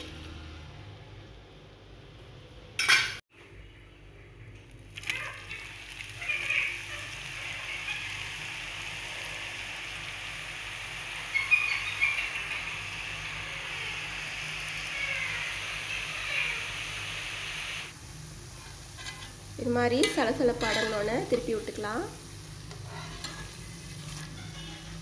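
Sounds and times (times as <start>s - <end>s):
food deep-frying in hot oil: 4.7s - 25.0s.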